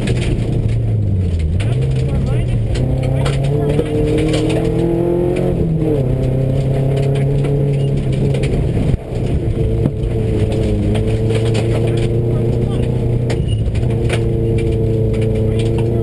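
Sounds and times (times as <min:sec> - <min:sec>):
car engine pulling: 0:00.0 - 0:16.0
gravel clattering under car: 0:00.0 - 0:16.0.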